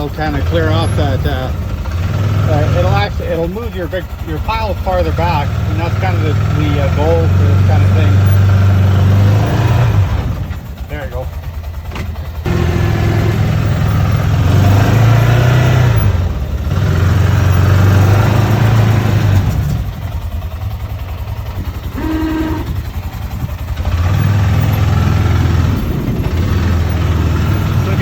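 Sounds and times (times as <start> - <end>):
engine revving hard: 0.0 - 11.2, 12.4 - 20.0, 21.5 - 28.0.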